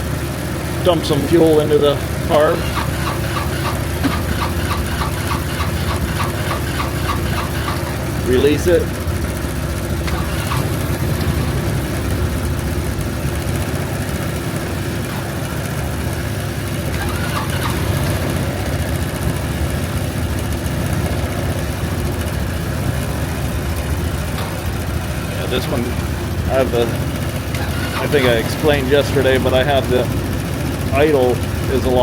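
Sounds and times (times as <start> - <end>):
scooter engine idling: 0.0 - 32.0.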